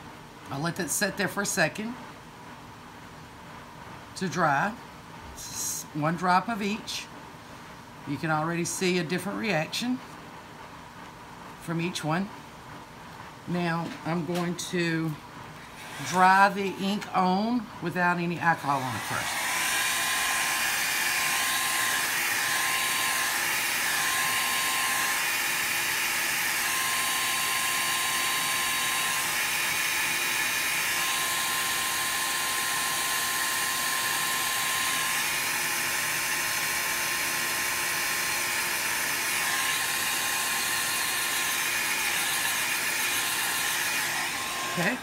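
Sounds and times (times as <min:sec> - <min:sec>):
heat gun fan whine: 0:00.0 - 0:45.0.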